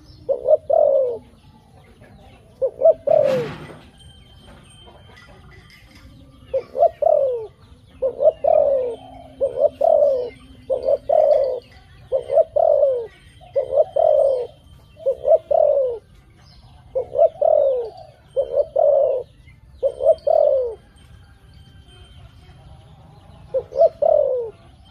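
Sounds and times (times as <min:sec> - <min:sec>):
dove cooing: 0:00.0 - 0:21.0, 0:23.3 - 0:24.9.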